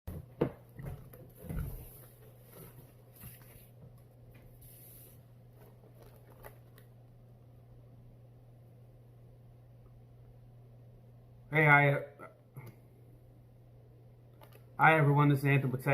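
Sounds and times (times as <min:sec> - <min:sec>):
low electrical hum: 0:00.1 - 0:15.9.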